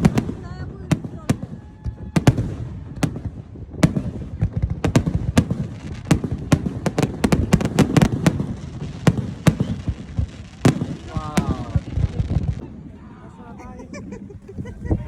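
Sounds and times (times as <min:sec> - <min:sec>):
fireworks bangs and cracks: 0:00.0 - 0:12.9.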